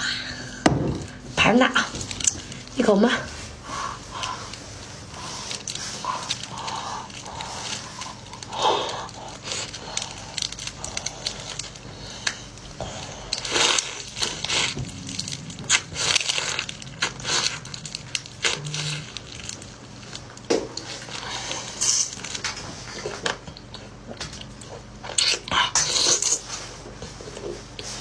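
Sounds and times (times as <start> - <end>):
chewing and crunching seafood: 0.0 - 28.0.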